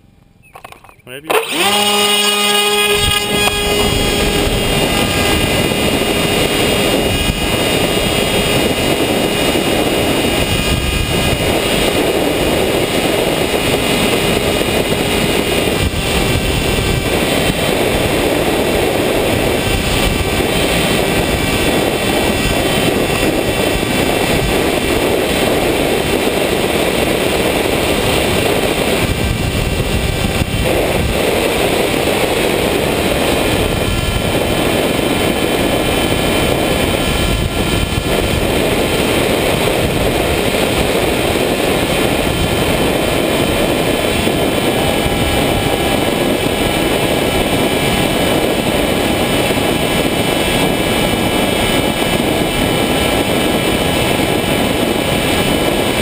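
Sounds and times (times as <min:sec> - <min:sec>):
model plane motor whine: 0:00.0 - 0:56.0
rushing wind: 0:00.0 - 0:56.0.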